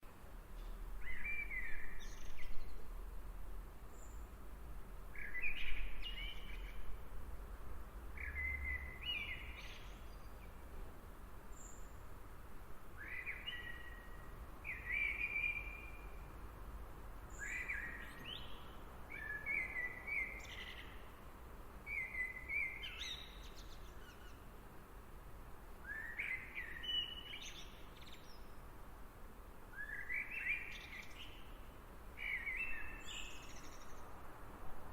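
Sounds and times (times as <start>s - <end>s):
songbird chirping: 0.0s - 7.2s, 8.0s - 34.9s.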